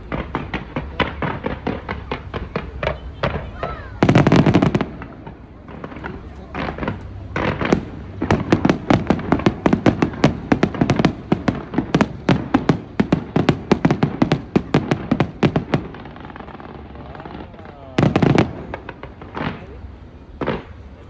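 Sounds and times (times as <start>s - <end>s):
fireworks cracking: 0.0s - 21.0s.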